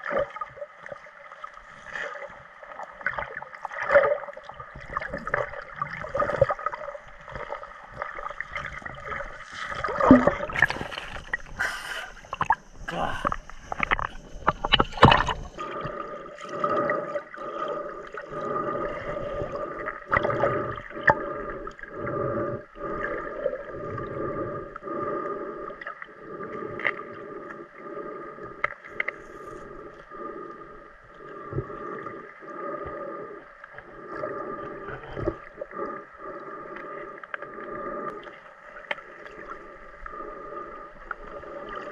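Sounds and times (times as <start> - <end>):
underwater water moving: 0.0 - 41.9
soft pulses: 4.8 - 41.9.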